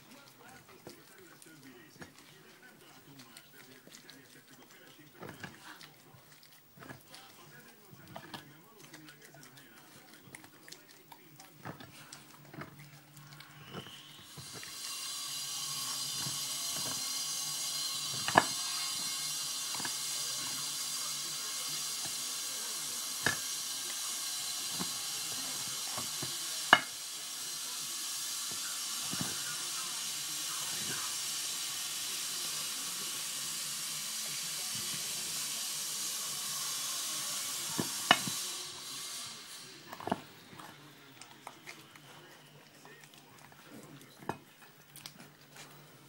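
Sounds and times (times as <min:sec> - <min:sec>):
dog crunching bones: 0:00.0 - 0:33.3, 0:34.2 - 0:46.0.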